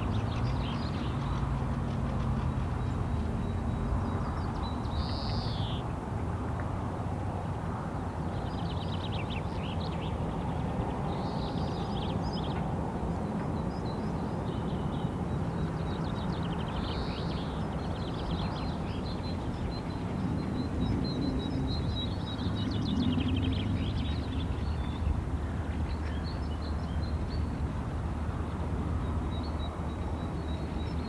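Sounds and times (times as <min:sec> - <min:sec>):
small birds trilling and chirping: 0:00.0 - 0:05.9, 0:07.4 - 0:31.0.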